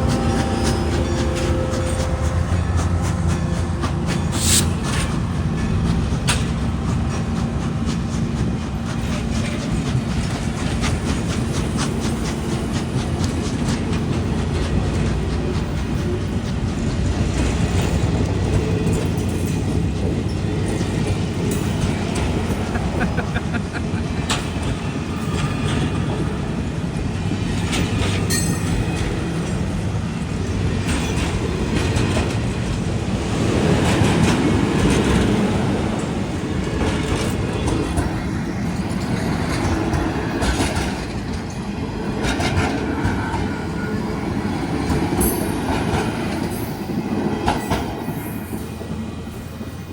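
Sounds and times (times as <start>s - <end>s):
wheels clicking over rail joints: 0.0s - 48.9s
freight train rumbling past: 0.0s - 49.9s.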